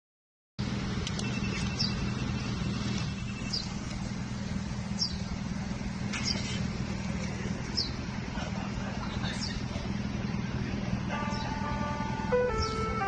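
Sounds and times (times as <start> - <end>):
road noise: 0.6 - 13.0
traffic engine hum: 0.6 - 13.0.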